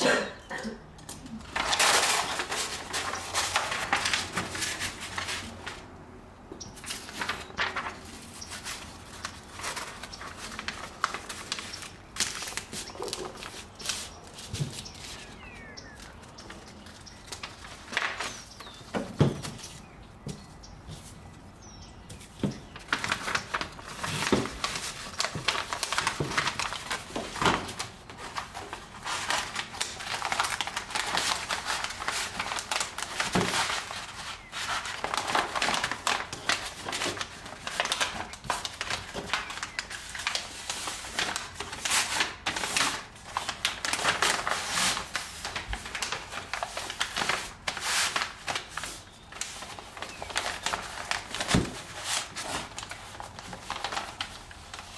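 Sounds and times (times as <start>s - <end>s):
wrapping material crinkling: 1.3s - 5.9s, 6.8s - 21.4s, 22.1s - 54.9s.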